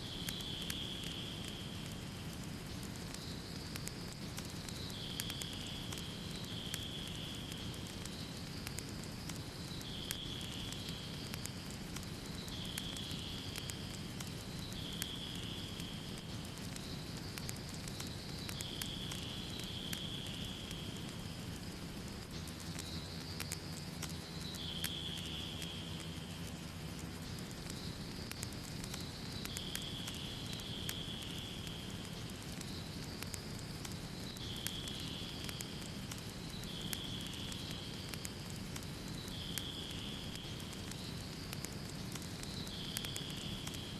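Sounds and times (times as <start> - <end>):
low rumble of flames: 0.0 - 43.9
wood fire crackling: 0.0 - 43.9.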